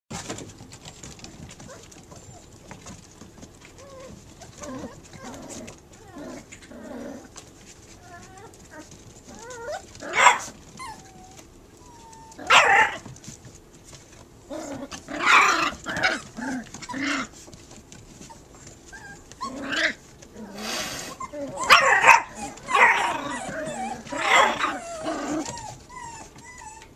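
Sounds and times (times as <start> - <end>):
puppies yapping: 0.2 - 13.2, 14.4 - 26.9
puppies whining: 0.2 - 13.3, 13.9 - 26.9.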